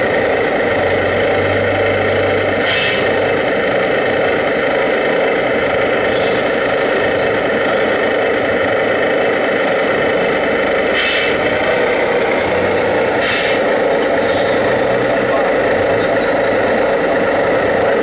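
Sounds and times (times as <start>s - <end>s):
toy truck motor running: 0.0s - 18.0s.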